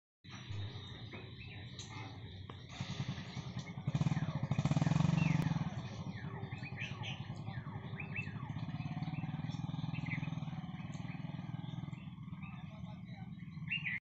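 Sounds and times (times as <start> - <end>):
motorcycle engine running: 0.3 - 14.0.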